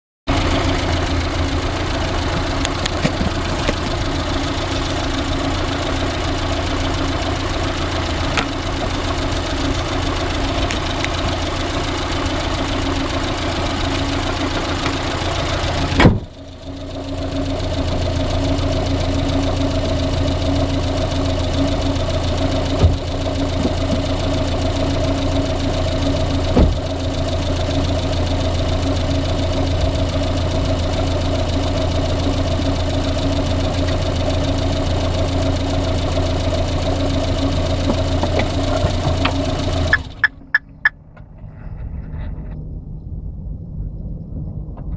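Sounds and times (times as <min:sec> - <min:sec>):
car engine idling with knock: 0:00.3 - 0:42.6, 0:44.6 - 0:44.9.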